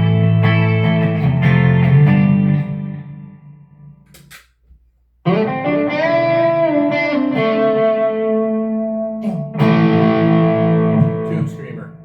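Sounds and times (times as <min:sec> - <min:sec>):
electric guitar chords ringing: 0:00.0 - 0:04.1, 0:05.2 - 0:12.0.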